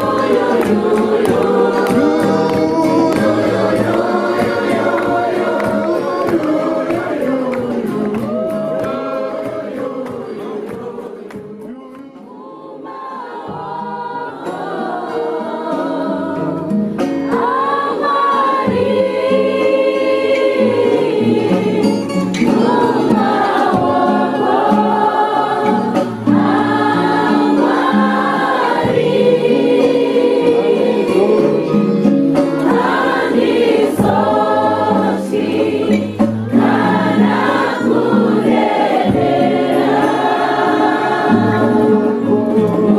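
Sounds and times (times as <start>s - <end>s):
group singing a hymn: 0.0s - 42.9s.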